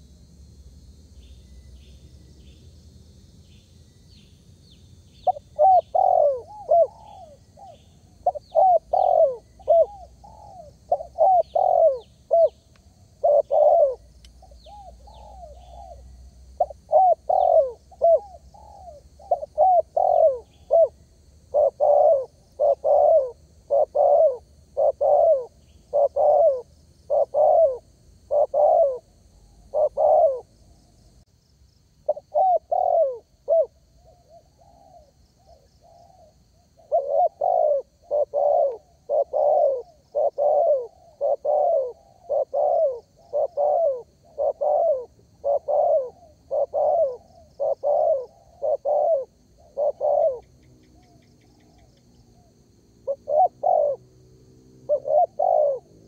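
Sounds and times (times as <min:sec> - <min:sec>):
small birds chirping: 0:03.4 - 0:31.2, 0:32.1 - 0:54.1, 0:54.9 - 0:56.0
dove cooing: 0:05.2 - 0:30.5, 0:32.1 - 0:54.2, 0:54.8 - 0:56.0.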